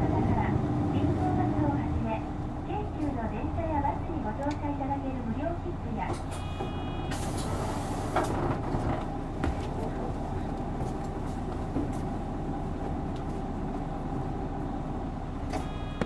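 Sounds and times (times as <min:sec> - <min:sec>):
bus diesel engine idling: 0:00.0 - 0:16.0.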